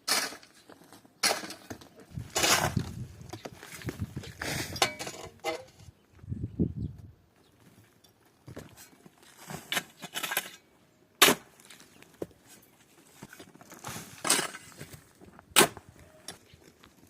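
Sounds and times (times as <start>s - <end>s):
rustling and scraping: 0.1s - 6.1s, 7.5s - 10.6s, 11.6s - 17.0s.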